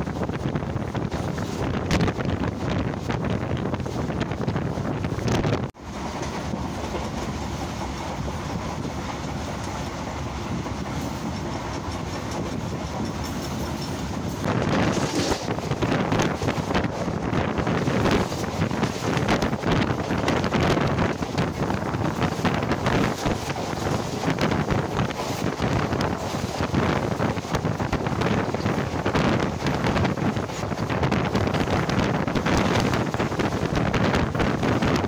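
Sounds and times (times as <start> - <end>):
train wheels rushing on rails: 0.0 - 35.0.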